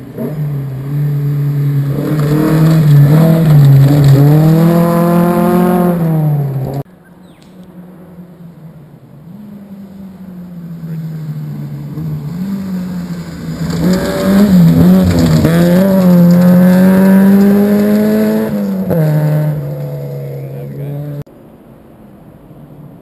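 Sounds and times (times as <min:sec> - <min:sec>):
rally car engine at high revs: 0:00.0 - 0:06.8, 0:09.2 - 0:21.3.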